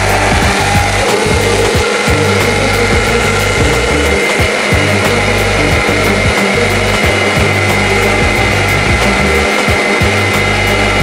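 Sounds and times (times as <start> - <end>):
blender whirring: 0.0 - 11.0.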